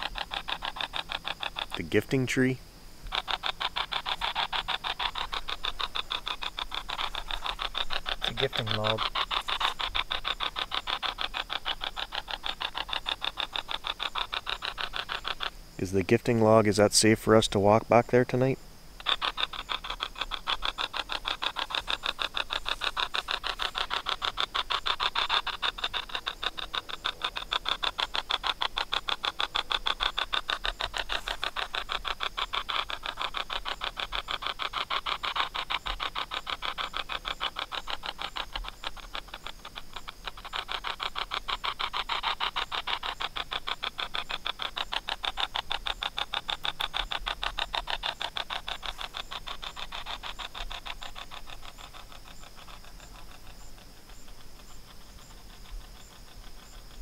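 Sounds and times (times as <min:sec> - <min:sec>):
choppy clicking radio static: 0:00.0 - 0:53.3.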